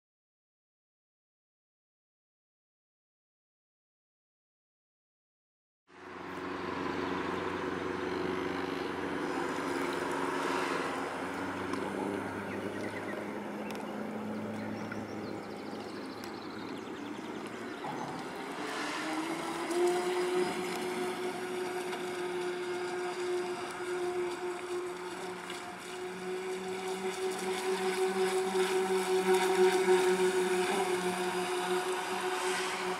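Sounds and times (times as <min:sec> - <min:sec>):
electric motors whining: 0:06.1 - 0:32.9.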